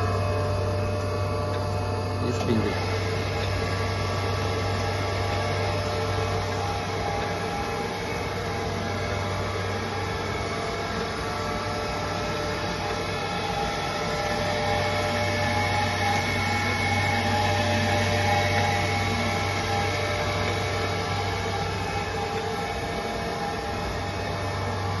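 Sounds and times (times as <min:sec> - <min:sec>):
surface grinder humming and whining: 0:00.0 - 0:25.0.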